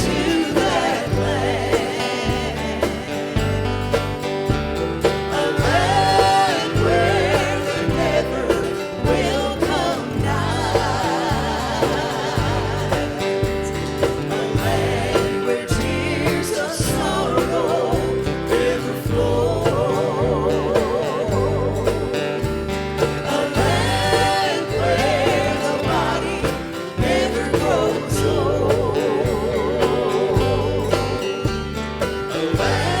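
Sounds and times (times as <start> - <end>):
gospel singing with vibrato: 0.0 - 33.0
steady bass line: 0.0 - 33.0.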